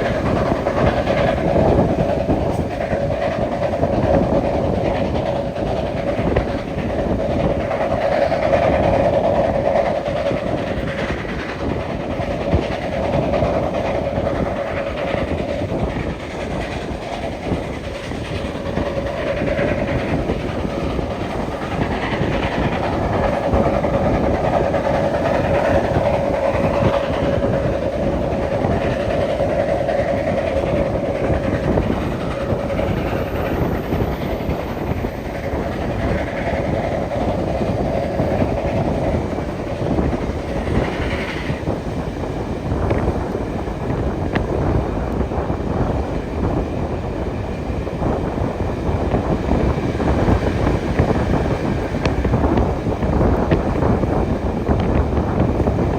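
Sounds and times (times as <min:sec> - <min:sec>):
train wheels rattling on rails: 0:00.0 - 0:55.9.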